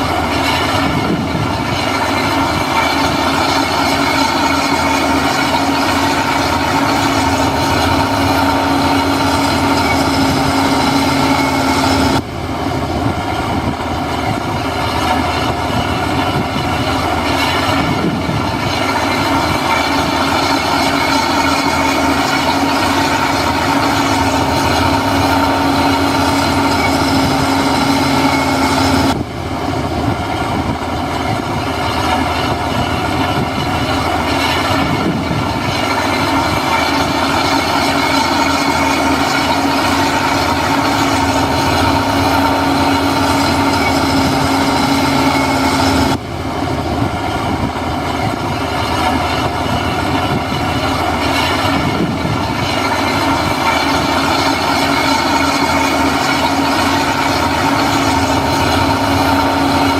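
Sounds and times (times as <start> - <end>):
heavy machinery diesel engine droning: 0.0 - 59.9.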